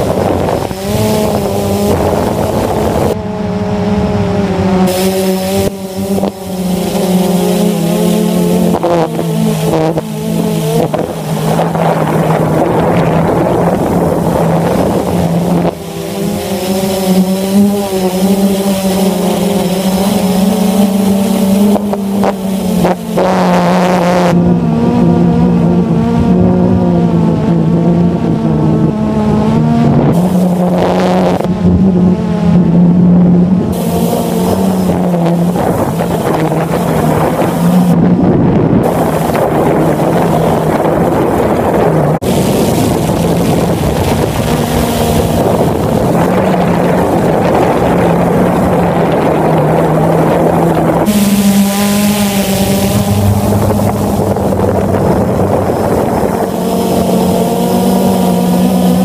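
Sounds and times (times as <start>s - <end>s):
drone motors humming: 0.0s - 59.0s
wind buffeting microphone: 0.0s - 59.0s.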